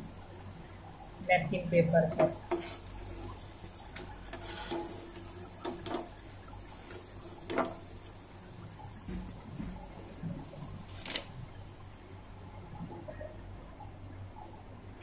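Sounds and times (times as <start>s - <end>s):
faint frying: 0.0s - 15.0s.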